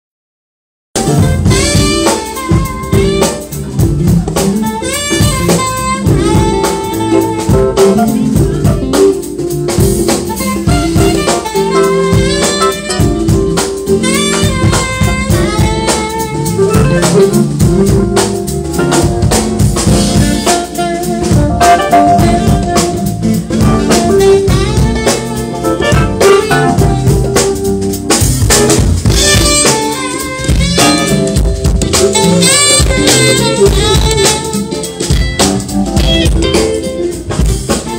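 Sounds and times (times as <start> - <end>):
drum hits: 1.0 - 37.9
jazz band playing: 1.0 - 37.9
saxophone melody: 1.0 - 37.9.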